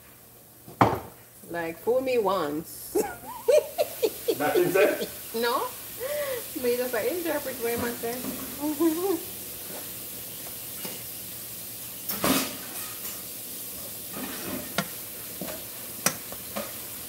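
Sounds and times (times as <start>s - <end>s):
frying in oil sizzling: 2.9s - 17.0s.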